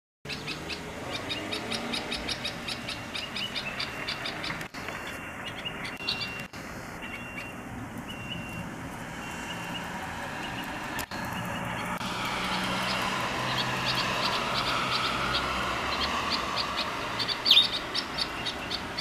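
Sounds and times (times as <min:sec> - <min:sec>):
small birds chirping: 0:00.3 - 0:19.0.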